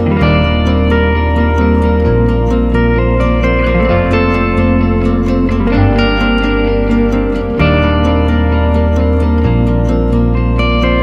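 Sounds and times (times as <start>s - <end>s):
soft plucked string music: 0.0s - 11.0s.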